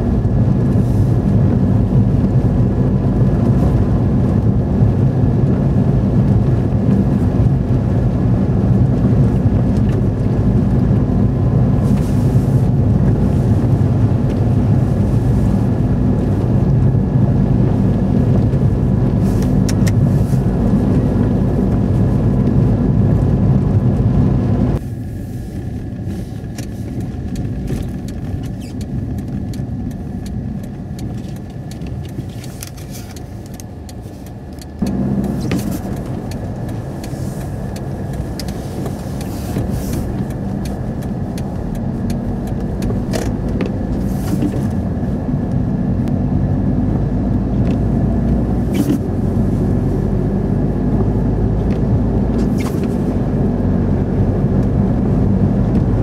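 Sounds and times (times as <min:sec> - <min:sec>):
car engine and tyres on snow: 0:00.0 - 0:56.0.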